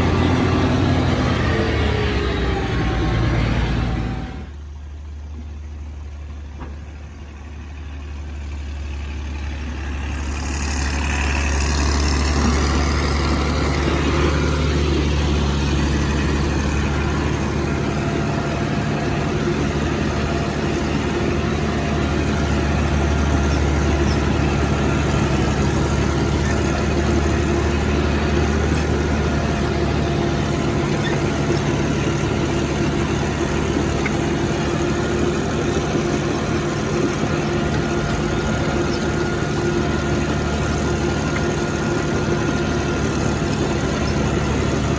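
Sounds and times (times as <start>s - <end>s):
heavy diesel engines running: 0.0s - 44.9s.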